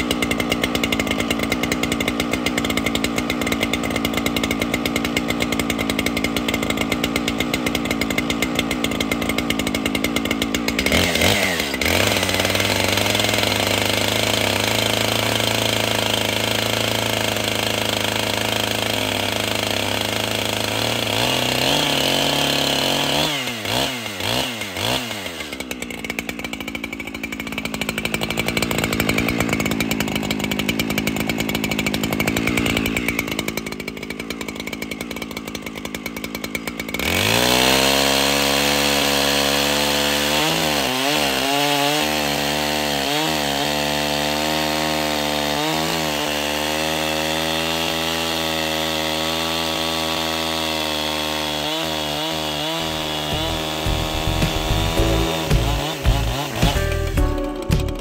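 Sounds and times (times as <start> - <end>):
chainsaw cutting log: 0.0 - 58.0
chainsaw revving: 0.0 - 58.0.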